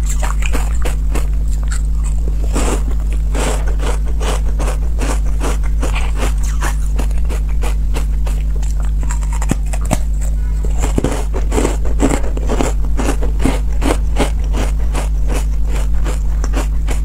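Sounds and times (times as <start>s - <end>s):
crunching and chewing ice: 0.0s - 17.0s
steady low hum: 0.0s - 17.0s.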